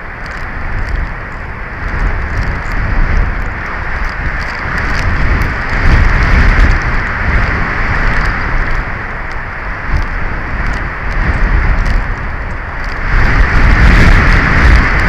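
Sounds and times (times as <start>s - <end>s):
faint ticks: 0.0s - 15.0s
strong wind on microphone: 0.0s - 15.0s.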